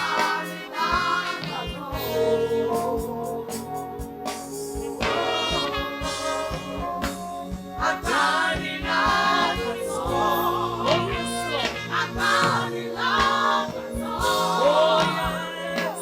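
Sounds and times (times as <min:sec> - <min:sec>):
band accompaniment: 0:00.0 - 0:16.0
drum beat: 0:00.0 - 0:16.0
voices singing: 0:00.0 - 0:16.0.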